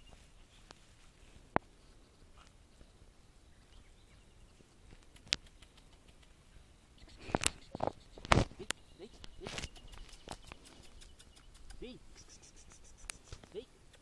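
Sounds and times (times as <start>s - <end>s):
grass and brush rustling: 0.0s - 14.0s.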